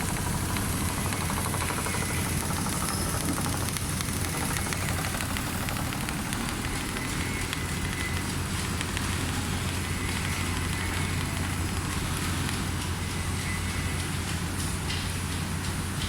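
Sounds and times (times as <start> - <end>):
sewing machine humming: 0.0 - 13.6
fast faint ticking: 0.0 - 14.4.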